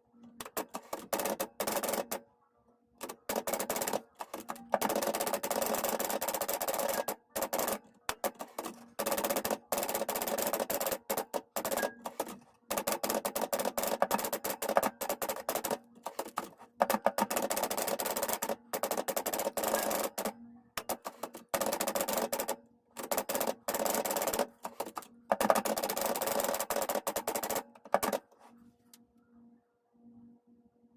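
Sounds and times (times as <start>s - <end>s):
manual typewriter keystrokes: 0.4s - 2.2s, 3.0s - 28.3s.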